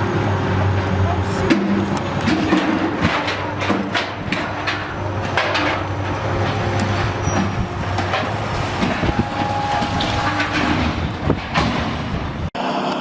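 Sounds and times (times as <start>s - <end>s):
heavy machine engine running: 0.0s - 13.0s
knocks and clatter: 0.8s - 12.5s.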